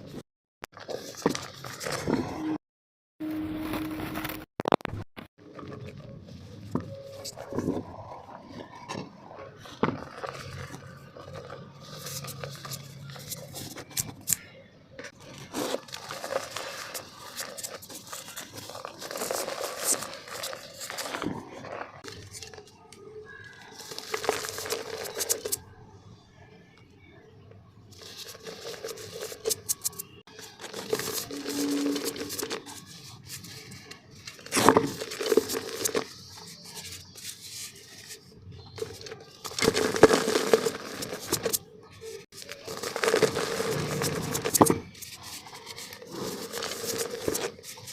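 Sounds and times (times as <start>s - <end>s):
dry dirt crumbling in clay pot: 5.4s - 25.6s, 27.9s - 47.9s.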